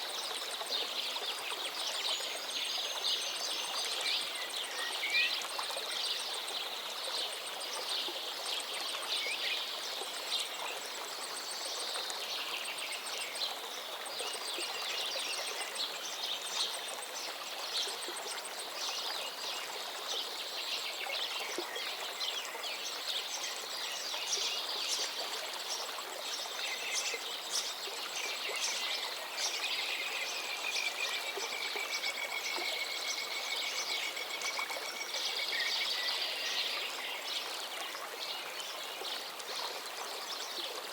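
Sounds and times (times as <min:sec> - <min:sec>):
river flowing: 0:00.0 - 0:40.9.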